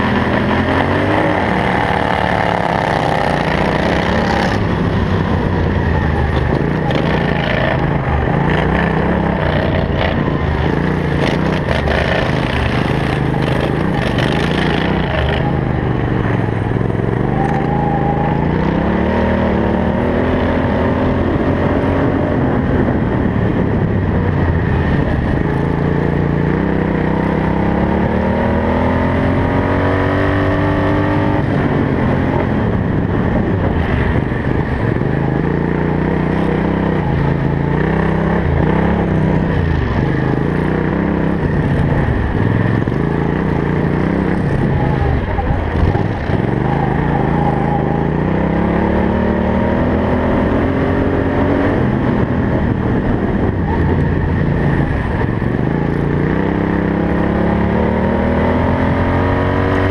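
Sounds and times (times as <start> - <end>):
lawn mower engine racing: 0.0 - 59.9.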